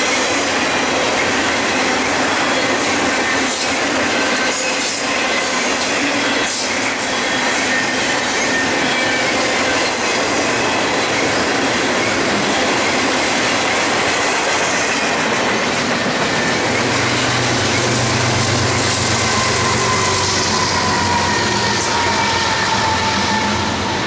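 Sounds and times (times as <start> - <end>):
diesel locomotive hum: 0.0 - 24.0
train wheels rushing on rail: 0.0 - 24.0.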